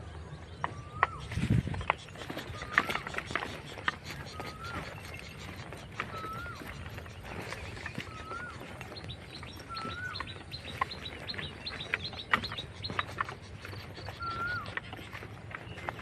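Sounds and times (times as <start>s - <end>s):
bird whistled call: 0.6s - 16.0s
high thin bird chirps: 0.6s - 16.0s.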